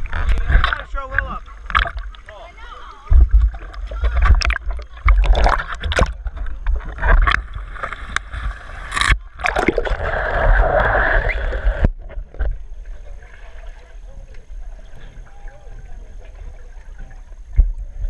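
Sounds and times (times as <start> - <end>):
pool water sloshing and splashing: 0.0 - 18.0.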